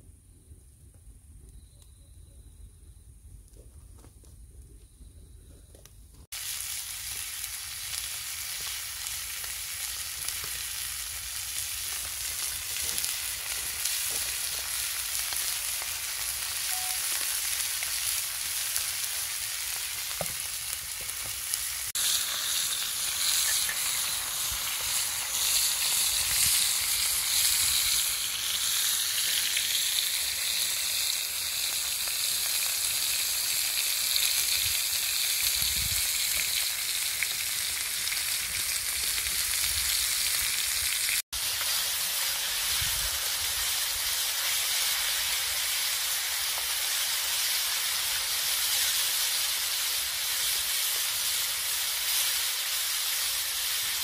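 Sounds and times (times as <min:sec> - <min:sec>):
pork sizzling on a griddle: 0:06.3 - 0:54.0.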